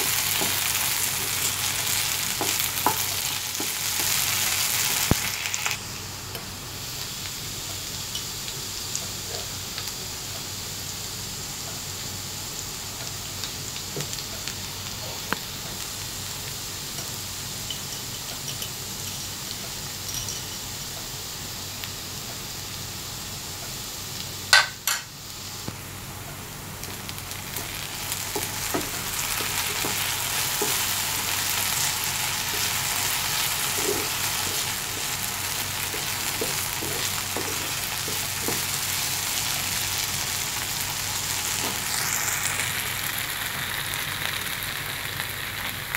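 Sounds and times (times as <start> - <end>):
potatoes sizzling in oil: 0.0 - 45.9.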